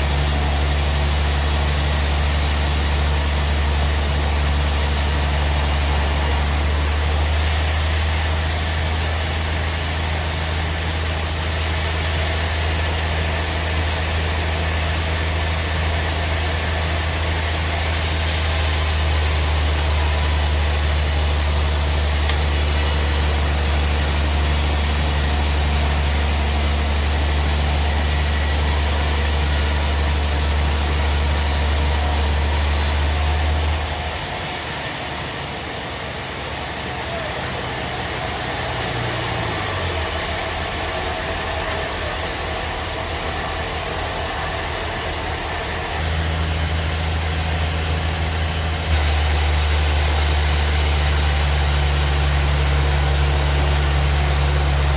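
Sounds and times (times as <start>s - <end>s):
band sawmill running: 0.0s - 54.9s.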